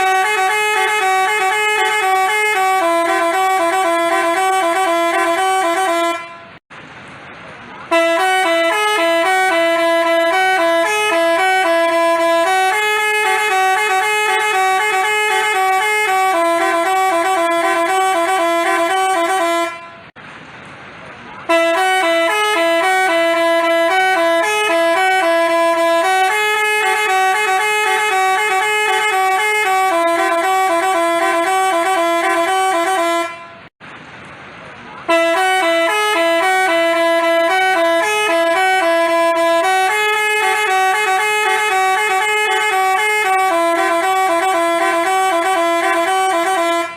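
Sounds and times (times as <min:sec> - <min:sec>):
bus horn playing a melody: 0:00.0 - 0:06.6, 0:07.9 - 0:20.2, 0:21.4 - 0:33.7, 0:35.0 - 0:46.9.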